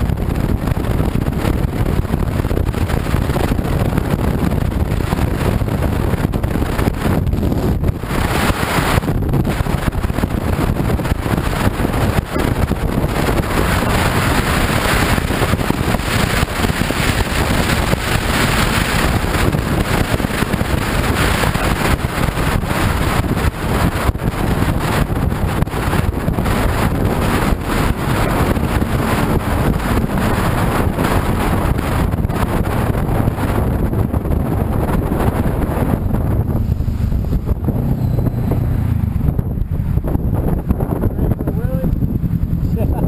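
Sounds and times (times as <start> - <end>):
motorcycle running: 0.0 - 43.0
road noise: 0.0 - 43.0
wind rushing over microphone: 0.0 - 43.0.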